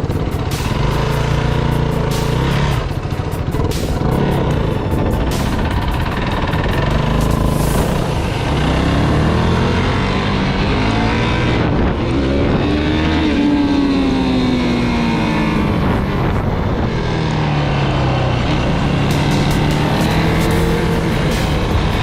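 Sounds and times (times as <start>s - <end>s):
off-road engine revving: 0.0s - 22.0s
rumble of riding noise: 0.0s - 22.0s.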